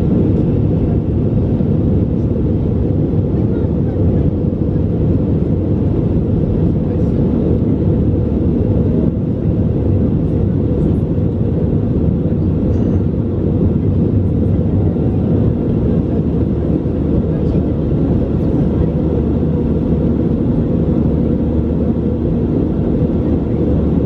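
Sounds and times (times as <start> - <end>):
airliner engine roar in cabin: 0.0 - 24.0.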